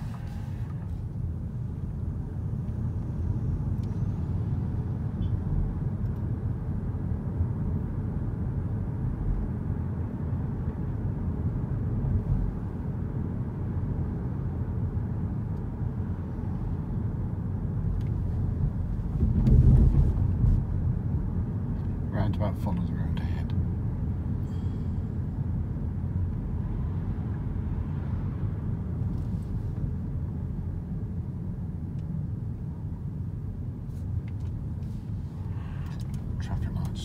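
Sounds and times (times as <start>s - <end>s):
road and tyre rumble in car: 0.0s - 37.0s.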